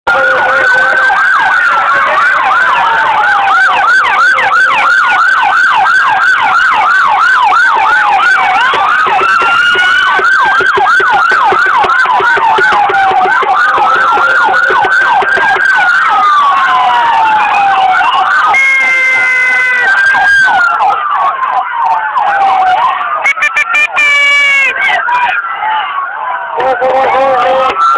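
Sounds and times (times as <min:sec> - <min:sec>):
siren wailing: 0:00.1 - 0:27.9
siren yelping: 0:00.1 - 0:27.9.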